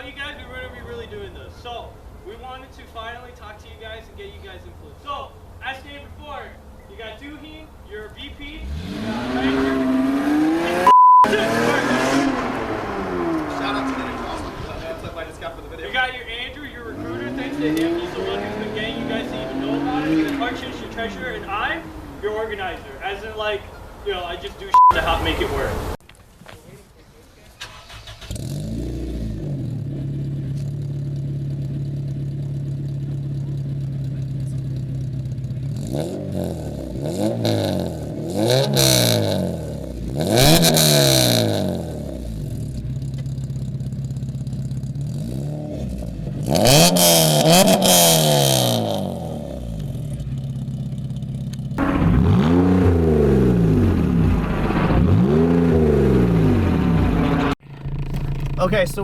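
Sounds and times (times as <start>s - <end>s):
car engine idling and revving: 0.0s - 25.0s, 27.6s - 59.0s.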